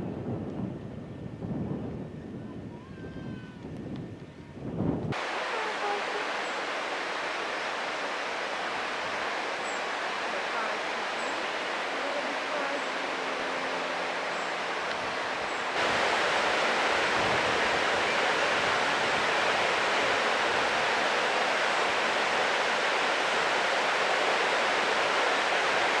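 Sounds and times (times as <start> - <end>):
steady hiss: 5.1 - 26.0.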